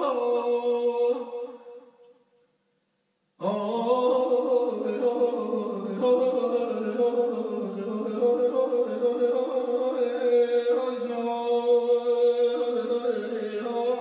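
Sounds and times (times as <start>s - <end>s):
classical vocal singing: 0.0s - 1.9s, 3.4s - 14.0s.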